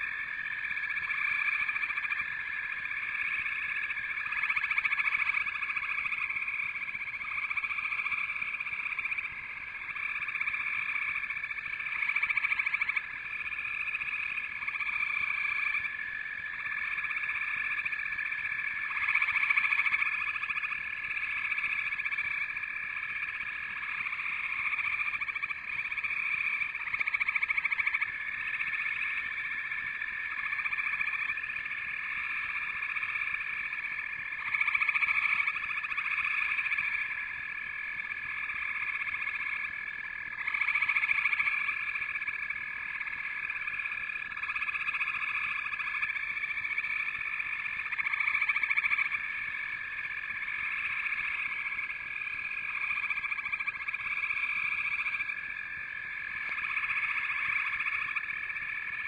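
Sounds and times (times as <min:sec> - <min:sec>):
chorus of calling animals: 0:00.0 - 0:59.0.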